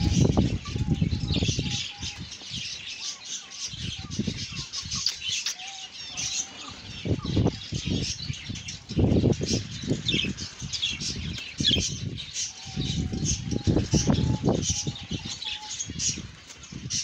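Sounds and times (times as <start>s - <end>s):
budgerigars chirping: 0.0s - 16.2s.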